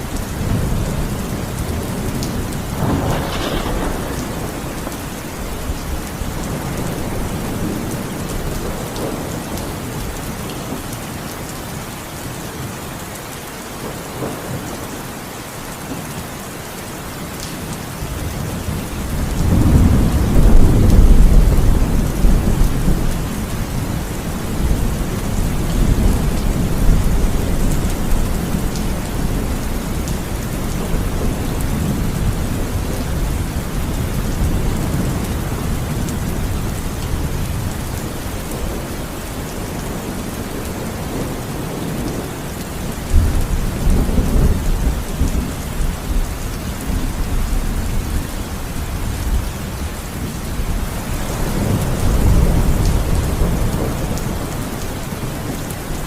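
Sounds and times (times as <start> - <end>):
low rumble of thunder: 0.0 - 10.8, 18.0 - 56.0
heavy rain falling: 0.0 - 56.0.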